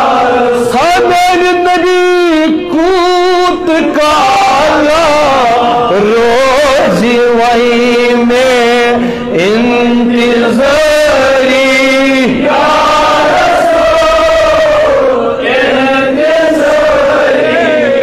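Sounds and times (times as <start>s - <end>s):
man singing into a microphone: 0.0s - 16.2s.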